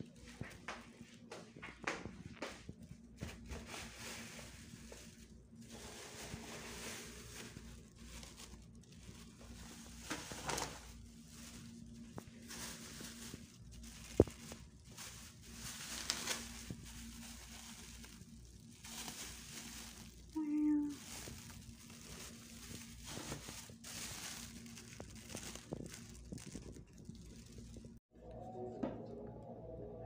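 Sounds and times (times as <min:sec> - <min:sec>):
plastic bag rustling: 0:02.8 - 0:28.0.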